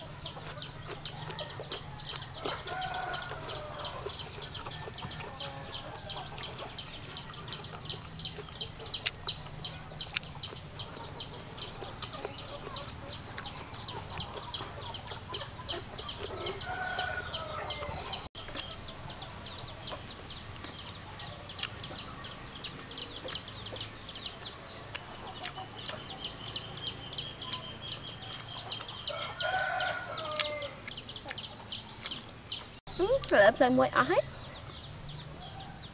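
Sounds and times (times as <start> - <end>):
chicks peeping: 0.0 - 35.9.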